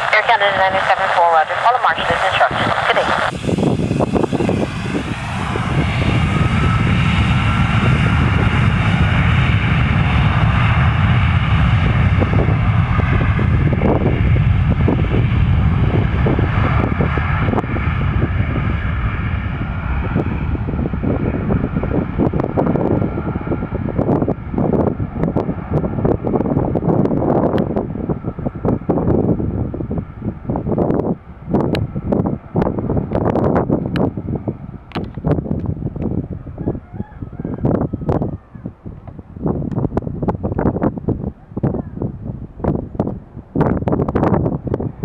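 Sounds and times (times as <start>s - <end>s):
jet engines rumbling and whining: 0.0s - 45.0s.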